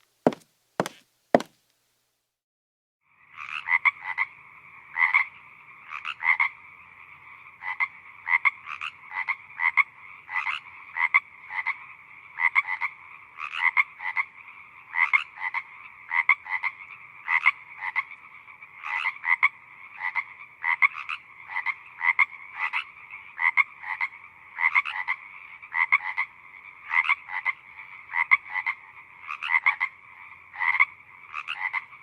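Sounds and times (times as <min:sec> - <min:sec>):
frogs croaking: 0:03.8 - 0:32.0.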